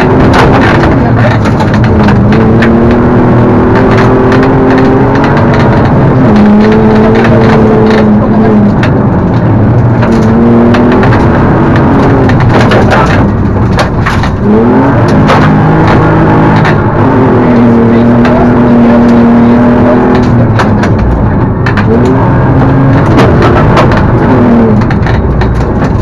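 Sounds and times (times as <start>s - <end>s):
gravel clattering against car underside: 0.0s - 26.0s
rally car engine at high revs: 0.0s - 26.0s.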